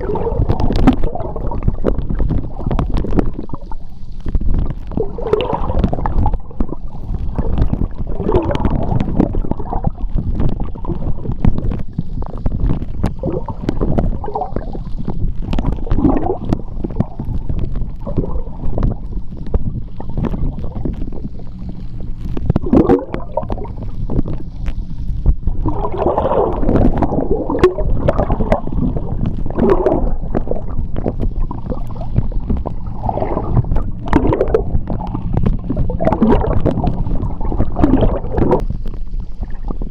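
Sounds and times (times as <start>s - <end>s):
bubble clicks and pops: 0.0s - 39.9s
underwater seawater rumble: 0.0s - 39.9s
water gurgling: 0.0s - 39.9s.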